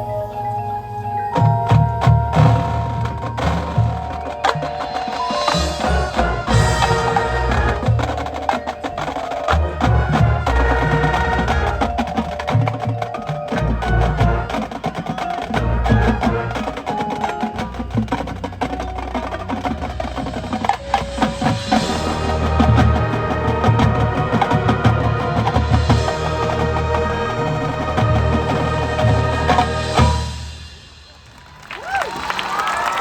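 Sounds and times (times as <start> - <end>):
marching band music: 0.0 - 33.0.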